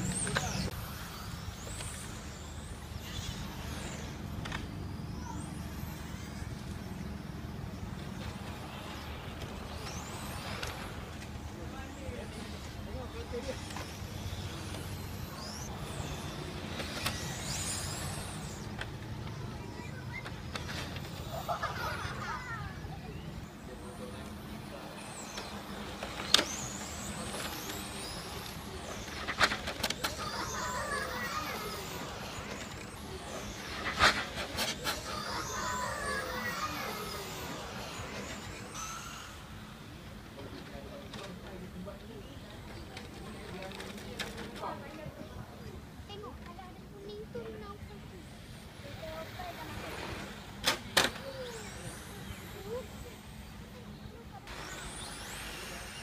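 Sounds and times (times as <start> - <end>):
electric motors whining high-pitched: 0.0 - 56.0.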